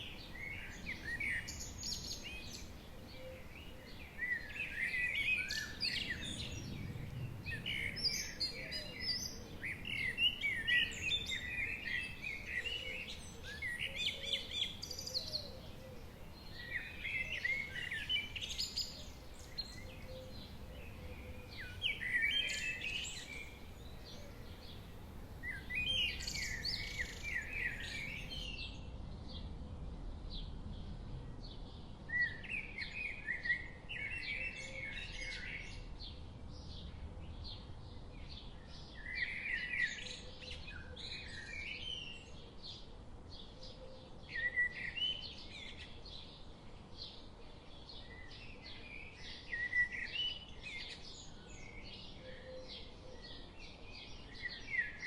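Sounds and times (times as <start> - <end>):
faint background hiss: 0.0 - 55.0
songbird chirping: 0.0 - 55.0.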